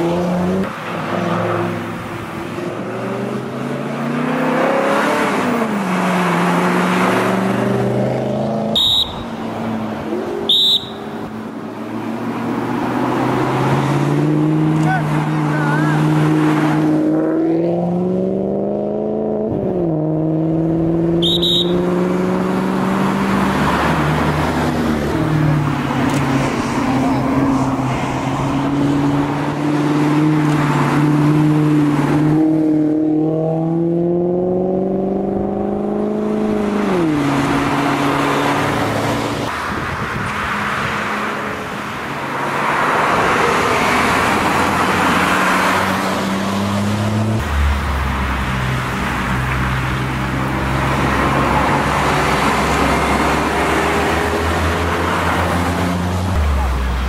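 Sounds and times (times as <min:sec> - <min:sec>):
car engine passing: 0:00.0 - 0:57.0.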